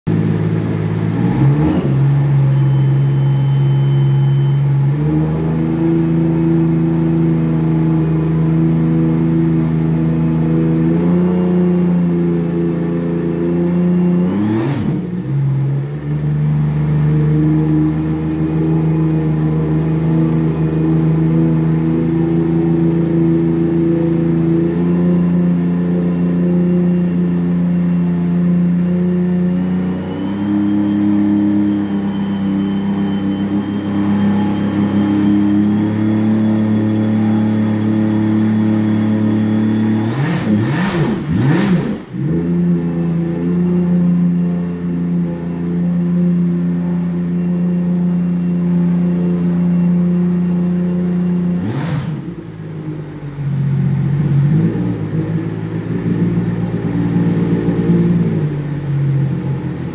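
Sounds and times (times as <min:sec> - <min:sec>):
personal watercraft engine revving: 0:00.1 - 0:59.9.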